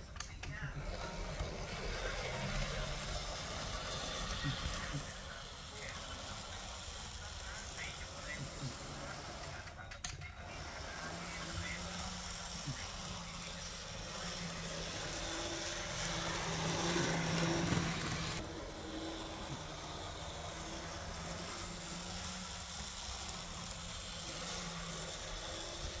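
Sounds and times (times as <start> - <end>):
model train motor humming: 0.0 - 26.0.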